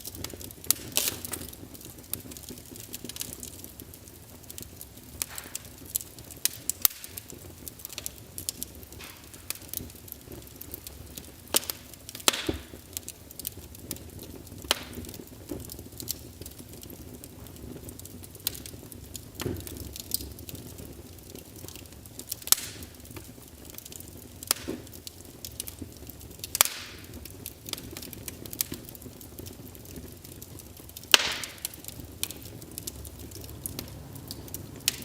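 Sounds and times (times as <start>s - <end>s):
soft steady hiss: 0.0s - 35.0s
wood fire crackling: 0.0s - 35.0s.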